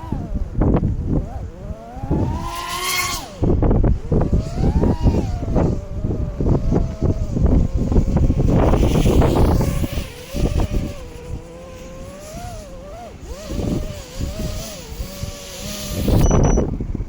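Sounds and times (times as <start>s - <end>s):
drone motors whining: 0.0s - 17.0s
wind rush on microphone: 0.0s - 17.0s.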